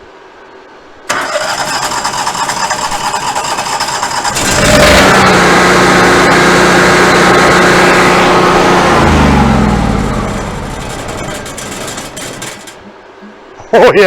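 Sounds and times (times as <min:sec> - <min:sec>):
generator engine running: 0:01.1 - 0:12.9.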